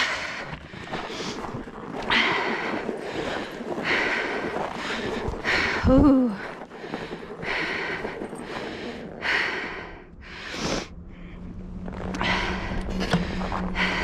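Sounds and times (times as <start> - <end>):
person breathing hard: 0.0 - 11.5, 12.1 - 14.0.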